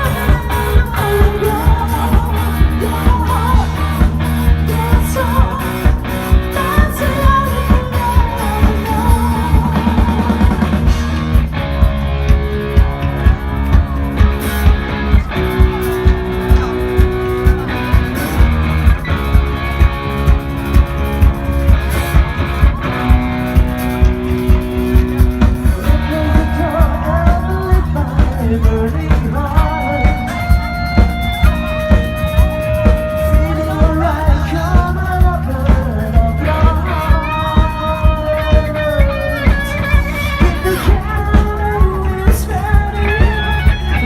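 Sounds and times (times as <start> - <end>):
drum kit beat: 0.0 - 44.0
electric guitar lead line: 0.0 - 44.0
live rock band playing: 0.0 - 44.0.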